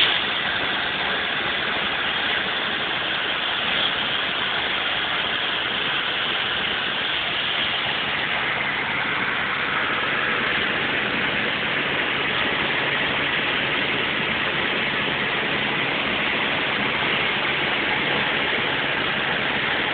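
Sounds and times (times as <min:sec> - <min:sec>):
constant rushing noise: 0:00.0 - 0:19.9
vehicle engine hum: 0:00.0 - 0:19.9.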